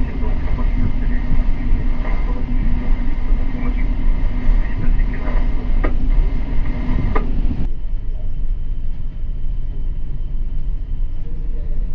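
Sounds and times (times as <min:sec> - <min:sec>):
ship low rumble: 0:00.0 - 0:11.9.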